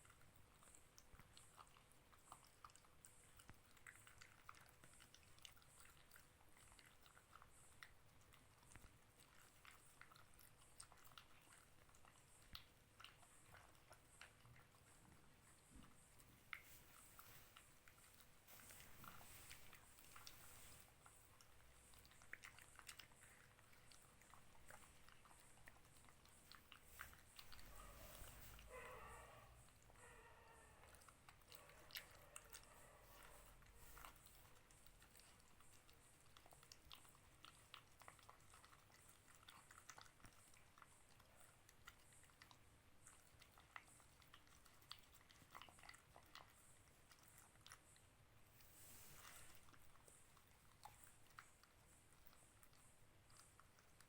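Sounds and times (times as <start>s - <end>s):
puppy crunching dog food: 0.0s - 54.0s.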